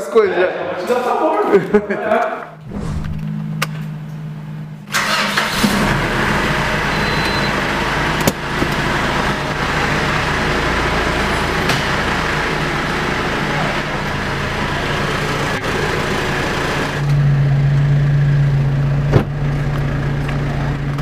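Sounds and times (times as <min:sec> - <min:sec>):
diesel engine starting and idling: 0:03.2 - 0:21.0.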